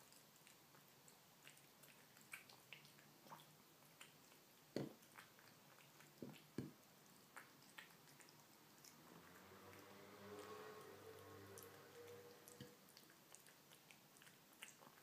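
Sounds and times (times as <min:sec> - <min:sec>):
kitten chewing food: 0:00.0 - 0:15.0.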